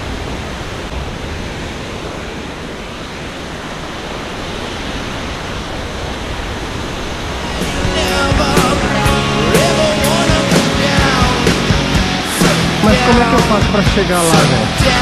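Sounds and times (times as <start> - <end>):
waterfall and river roaring: 0.0 - 15.0.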